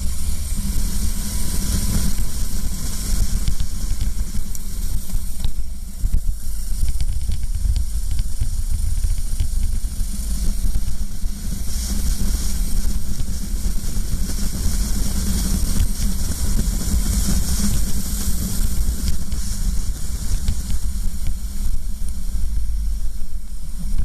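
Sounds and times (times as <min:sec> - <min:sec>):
kart engine rough rumble: 0:00.0 - 0:24.0
wind hiss on microphone: 0:00.0 - 0:24.0.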